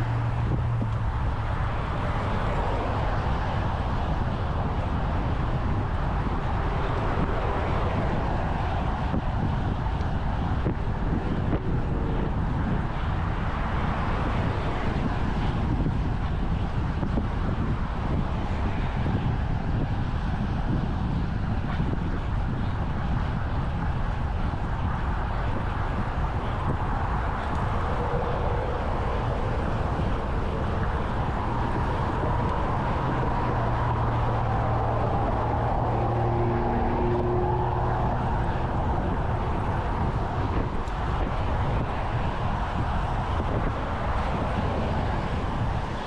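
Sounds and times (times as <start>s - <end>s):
passing vehicle engine hum: 0.0s - 46.0s
wind and road rush: 0.0s - 46.0s.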